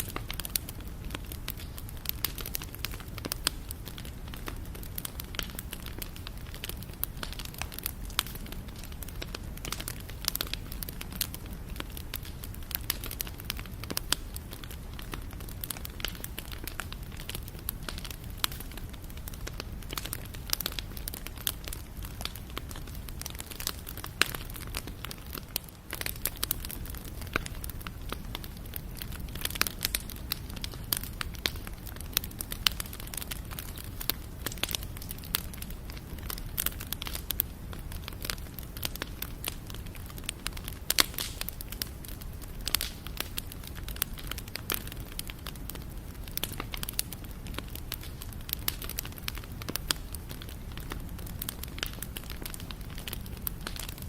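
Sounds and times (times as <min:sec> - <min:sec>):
low rumble of flames: 0:00.0 - 0:54.0
wood crackling and popping: 0:00.0 - 0:54.0.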